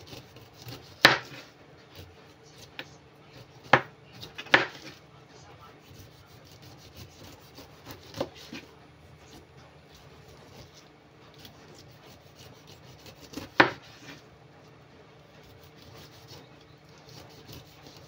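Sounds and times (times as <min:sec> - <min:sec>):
knife scraping pineapple skin: 0:00.0 - 0:05.0, 0:05.6 - 0:14.2, 0:15.3 - 0:18.0.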